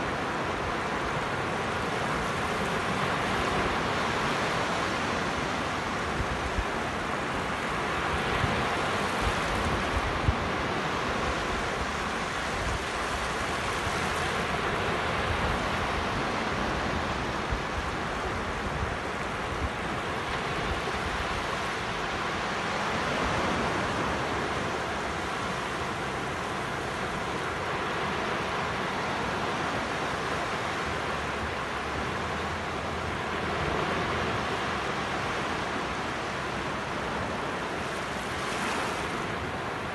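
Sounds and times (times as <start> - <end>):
surf washing up a beach: 0.0 - 39.9.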